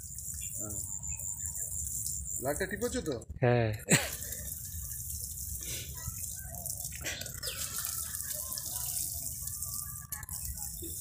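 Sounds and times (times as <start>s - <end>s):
water showering from watering cans: 0.0s - 11.0s.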